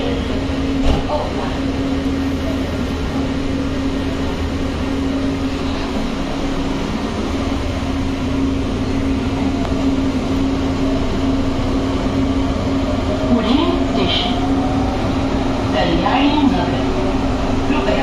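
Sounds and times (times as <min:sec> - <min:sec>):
metro train interior hum: 0:00.0 - 0:18.0.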